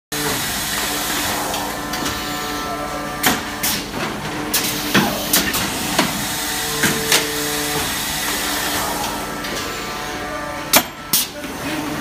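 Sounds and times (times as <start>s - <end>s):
machine hum and hiss: 0.2s - 12.0s.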